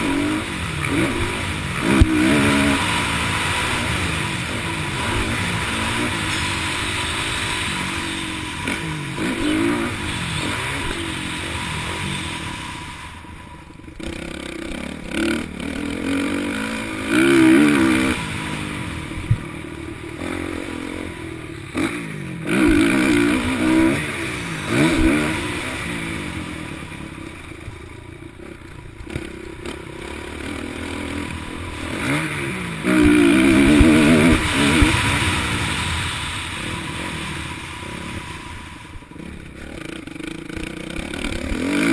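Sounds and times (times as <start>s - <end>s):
motocross bike engines revving: 0.0s - 41.9s.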